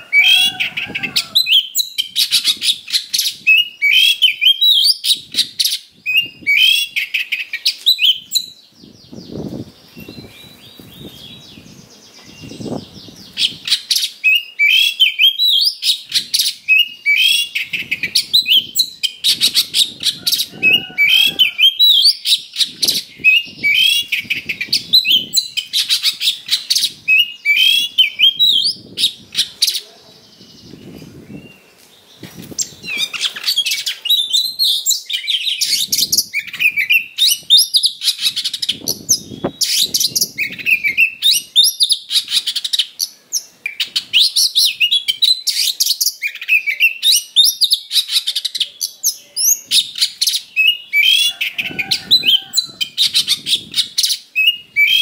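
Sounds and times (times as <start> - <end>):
bird singing whistles and trills: 0.0 - 29.7, 30.4 - 31.6, 32.6 - 55.0.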